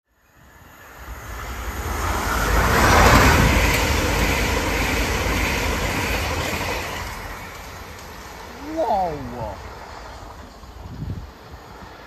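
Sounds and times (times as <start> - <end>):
train passing at speed: 0.1 - 12.0.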